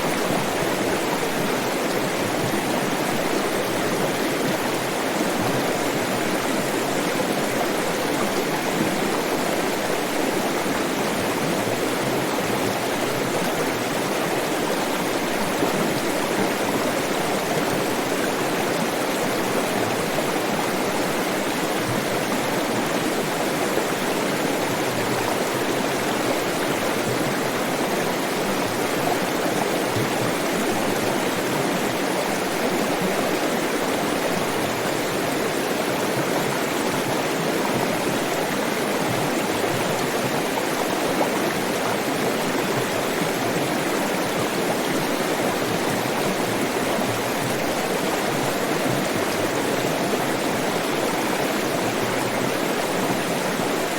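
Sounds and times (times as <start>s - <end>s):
stream water rushing: 0.0s - 53.9s.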